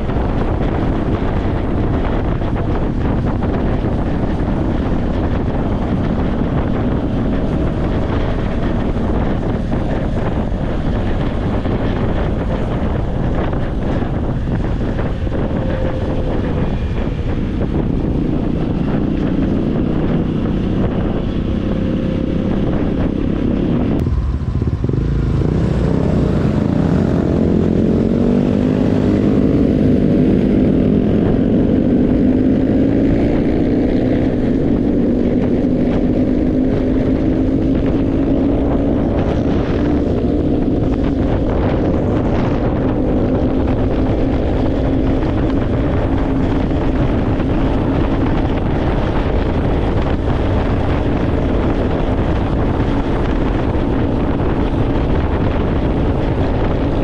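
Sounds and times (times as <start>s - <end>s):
engine running: 0.0s - 57.0s
wind-like rushing noise: 0.0s - 57.0s.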